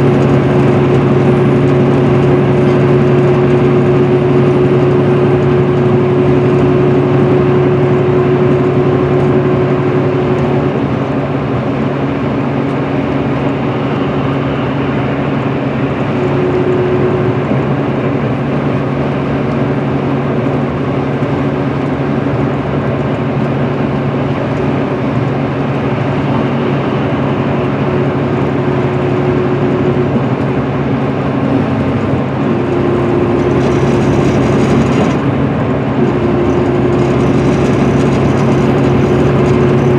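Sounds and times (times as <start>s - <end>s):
diesel engine drone: 0.0s - 39.9s
tyre and road noise: 0.0s - 39.9s.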